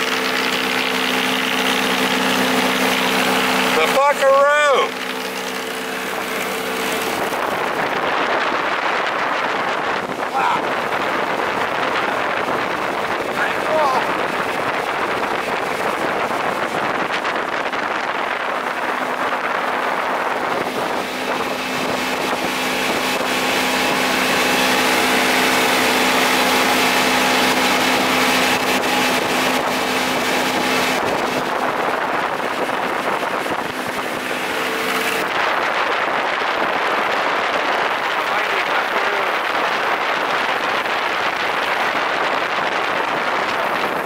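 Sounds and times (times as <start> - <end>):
outboard motor running: 0.0 - 44.0
wind buffeting microphone: 4.9 - 44.0.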